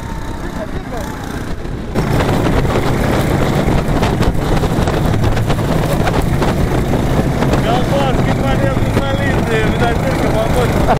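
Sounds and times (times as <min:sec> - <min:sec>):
small petrol engine running hard: 0:00.0 - 0:10.9
wind buffeting microphone: 0:00.0 - 0:10.9.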